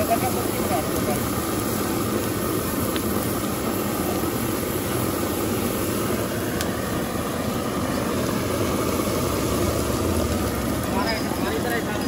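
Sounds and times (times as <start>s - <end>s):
engines idling: 0.0s - 12.0s
street traffic hum: 0.0s - 12.0s.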